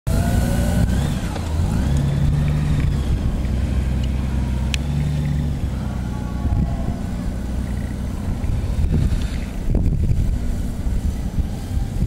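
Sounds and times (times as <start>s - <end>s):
motorcycle engine running: 0.1s - 12.0s.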